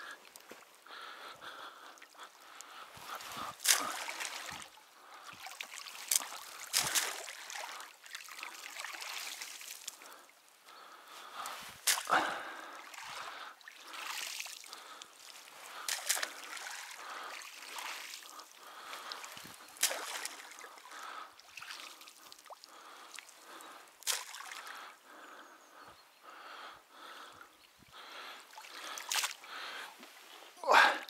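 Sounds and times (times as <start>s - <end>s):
water sloshing and dripping: 0.0s - 25.0s, 27.9s - 31.0s.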